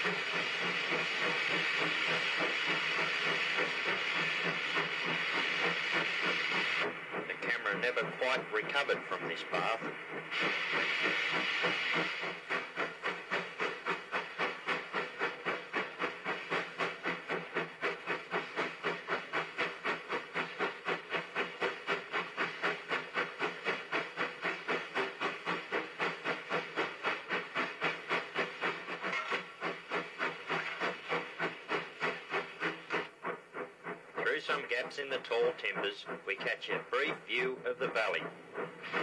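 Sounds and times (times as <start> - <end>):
steam hiss: 0.0 - 39.0
steam locomotive chuffing: 0.0 - 39.0.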